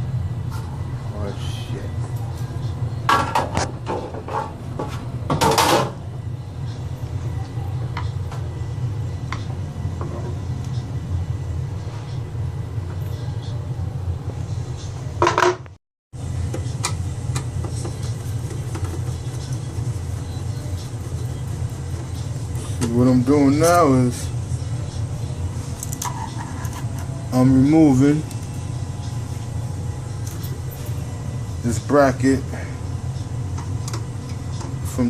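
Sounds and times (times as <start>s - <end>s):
steady low hum: 0.0s - 15.3s, 16.2s - 35.0s.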